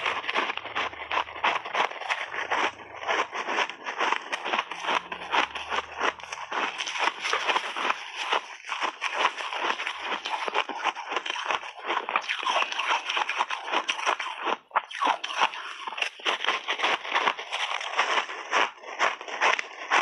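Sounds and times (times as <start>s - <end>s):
crunchy chewing of frozen berries: 0.0s - 20.0s.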